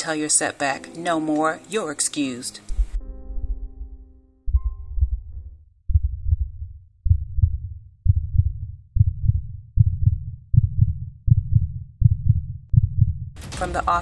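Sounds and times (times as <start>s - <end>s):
heartbeat thumps: 2.7s - 14.0s.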